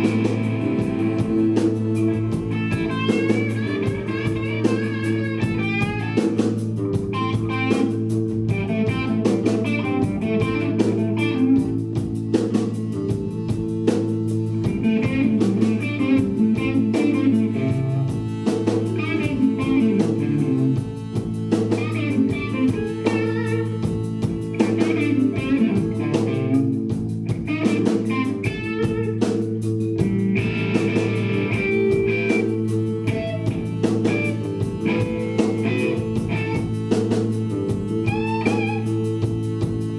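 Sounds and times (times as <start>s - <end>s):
bass line: 0.0s - 39.9s
drums: 0.0s - 39.9s
electric guitar solo: 0.0s - 39.9s.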